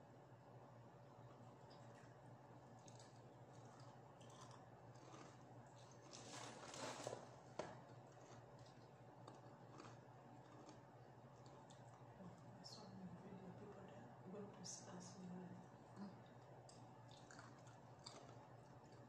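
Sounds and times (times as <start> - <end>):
faint eating sounds: 0.6 - 19.0.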